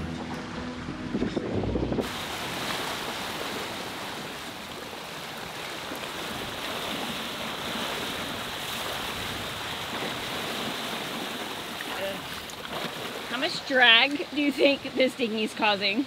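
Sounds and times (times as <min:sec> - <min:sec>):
sea water rushing past boat: 0:00.0 - 0:16.0.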